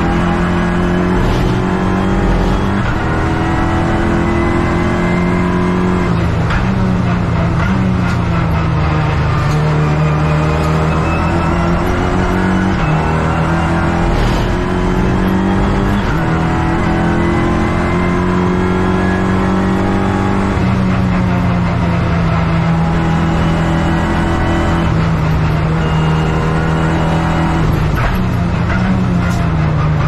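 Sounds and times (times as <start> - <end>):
race car engine at high revs: 0.0 - 30.0.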